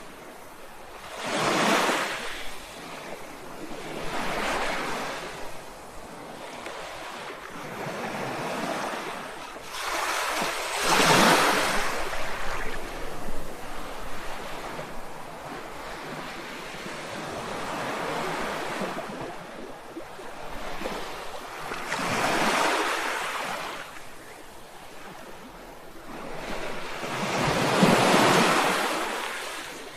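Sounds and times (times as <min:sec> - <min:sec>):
sea waves breaking: 0:00.0 - 0:29.9.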